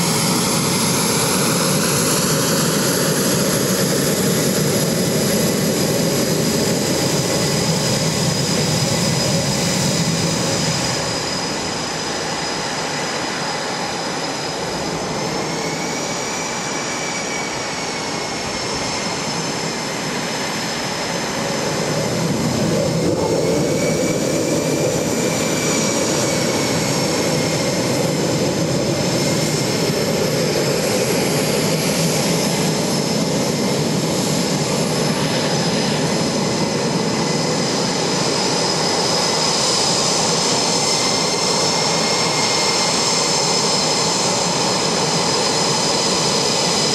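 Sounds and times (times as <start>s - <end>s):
jet engine roar with whine: 0.0s - 46.9s.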